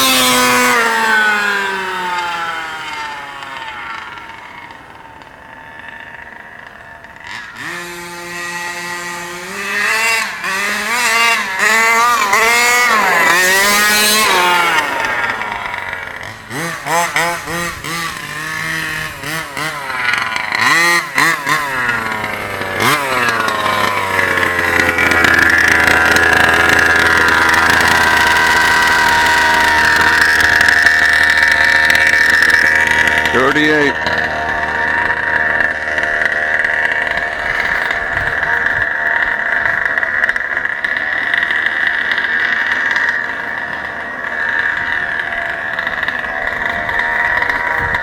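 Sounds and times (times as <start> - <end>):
small two-stroke engine revving: 0.0 - 48.0.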